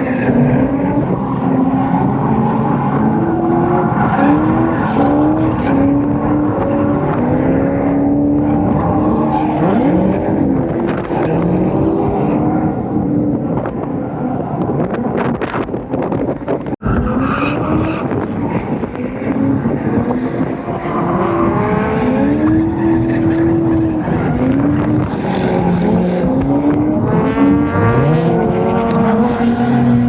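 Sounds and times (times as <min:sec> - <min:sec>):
car engines revving hard: 0:00.0 - 0:30.0.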